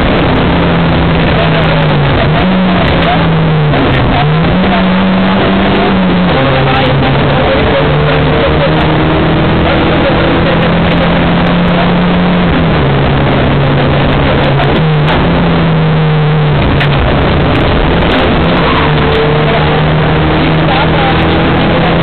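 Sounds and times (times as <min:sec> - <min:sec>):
rally car engine running hard: 0:00.0 - 0:22.0.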